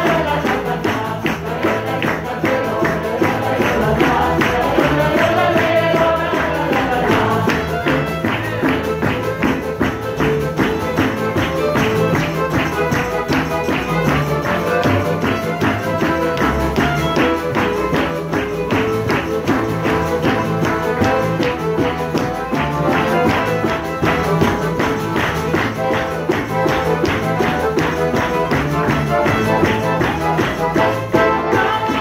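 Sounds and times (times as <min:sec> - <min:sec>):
accordion: 0:00.0 - 0:32.0
double bass: 0:00.0 - 0:32.0
fast tambourine beat: 0:00.0 - 0:32.0
violin: 0:00.0 - 0:32.0.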